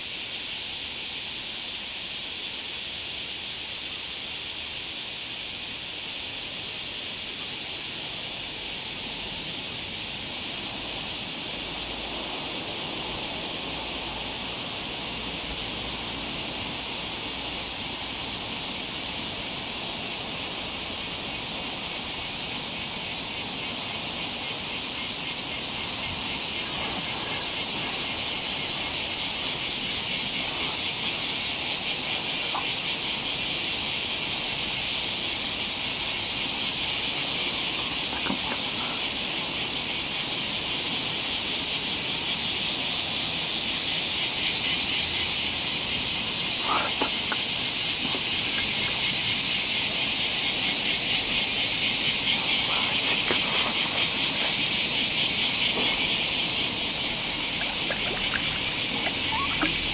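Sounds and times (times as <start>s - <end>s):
shrill pulsing insect chorus: 0.0s - 59.9s.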